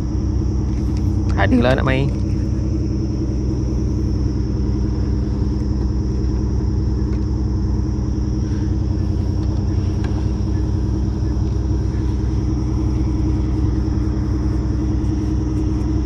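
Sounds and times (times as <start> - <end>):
engine idling: 0.0 - 16.0
faint high whine: 0.0 - 16.0.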